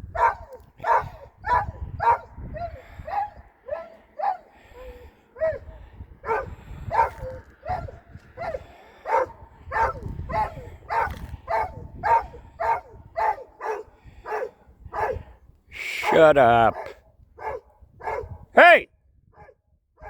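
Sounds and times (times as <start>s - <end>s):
dog barking: 0.0s - 15.3s, 16.0s - 18.4s, 19.4s - 19.6s.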